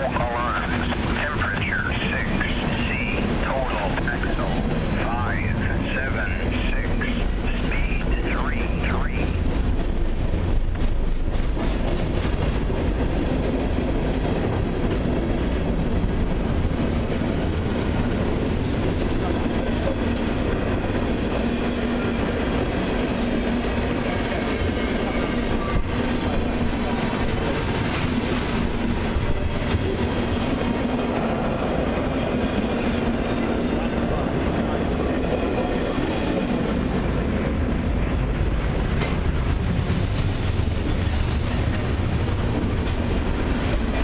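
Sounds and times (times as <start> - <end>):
freight train wheels rumbling on rail: 0.0 - 44.0.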